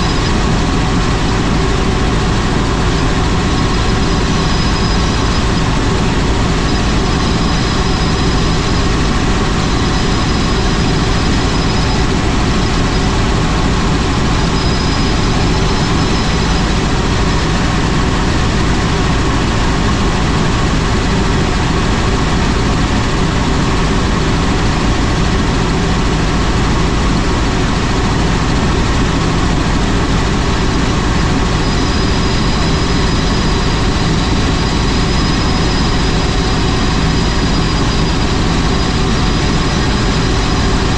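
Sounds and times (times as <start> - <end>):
faint high whine: 0.0 - 23.4, 28.7 - 40.9
helicopter engine and rotor drone: 0.0 - 40.9.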